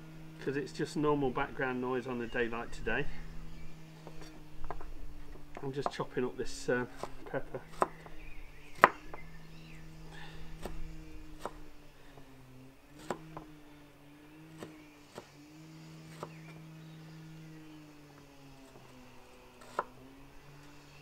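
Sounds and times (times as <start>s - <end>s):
lawnmower engine running: 0.0s - 21.0s.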